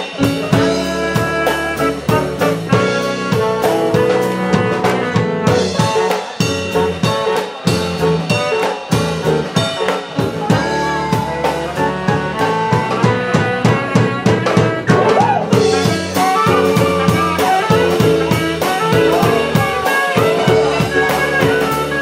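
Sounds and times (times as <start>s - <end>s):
saxophone: 0.0s - 7.4s, 9.2s - 22.0s
bass: 0.0s - 22.0s
drum kit beat: 0.0s - 22.0s.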